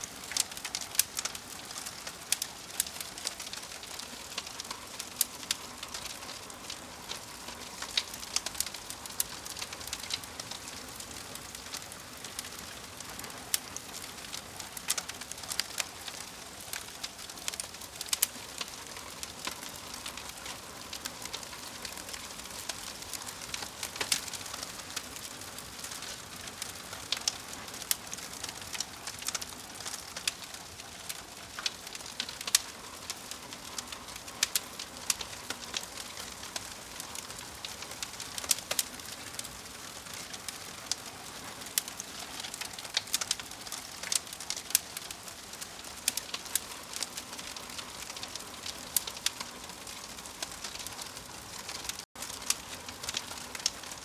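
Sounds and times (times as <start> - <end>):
burning logs crackling and popping: 0.0 - 54.0
wood fire hissing: 0.0 - 54.0.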